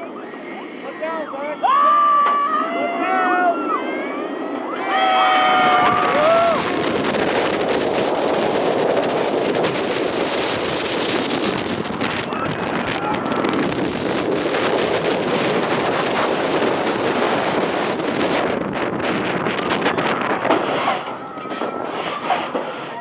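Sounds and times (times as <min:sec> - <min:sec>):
wind rushing over microphone: 0:02.0 - 0:23.0.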